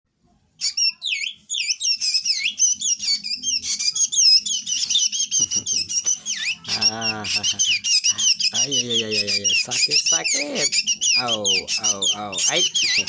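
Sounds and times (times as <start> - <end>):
bird whistled chirps: 0.6 - 13.0.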